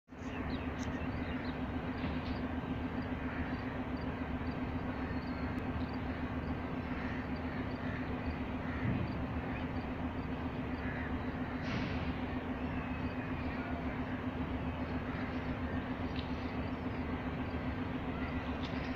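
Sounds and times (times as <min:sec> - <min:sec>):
birds chirping: 0:00.1 - 0:18.9
diesel locomotive engine droning: 0:00.1 - 0:18.9.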